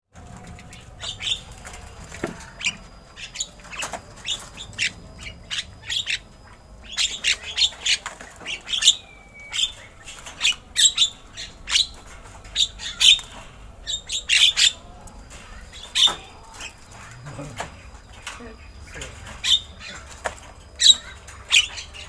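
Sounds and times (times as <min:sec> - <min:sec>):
bird chattering squawks: 0:02.4 - 0:20.2, 0:20.8 - 0:22.0.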